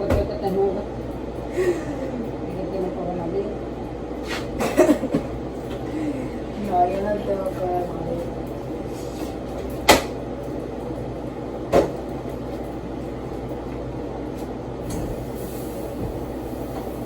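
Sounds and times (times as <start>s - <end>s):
low household hum: 0.0s - 17.0s.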